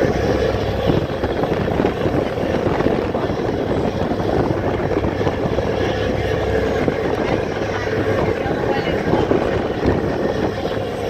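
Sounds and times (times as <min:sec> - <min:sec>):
ferry engines droning: 0:00.0 - 0:11.0
wind buffeting microphone: 0:00.0 - 0:11.0.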